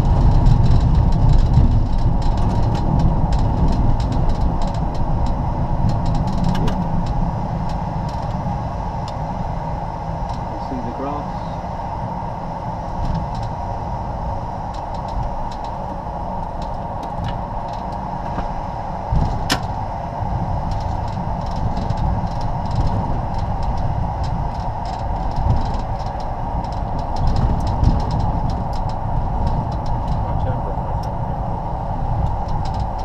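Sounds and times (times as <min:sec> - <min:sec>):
wheels rumbling: 0:00.0 - 0:33.0.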